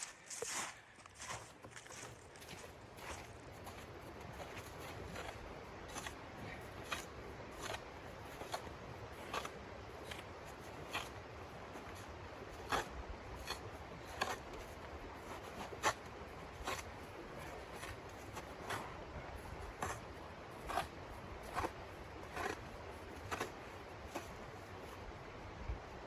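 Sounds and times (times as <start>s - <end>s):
short crunching or scraping sounds: 0.0s - 25.0s.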